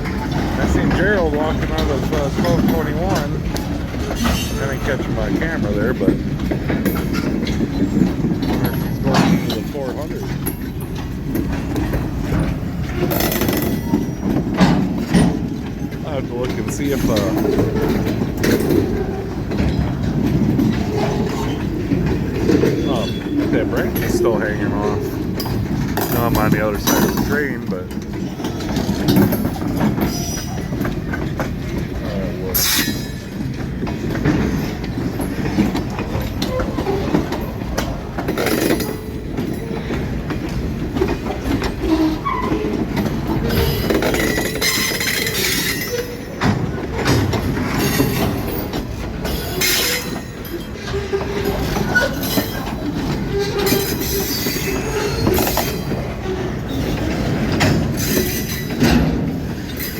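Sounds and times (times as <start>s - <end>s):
train rumble: 0.0s - 59.9s
train wheels clacking on rail joints: 0.0s - 59.9s
wheel squeals: 0.0s - 59.9s.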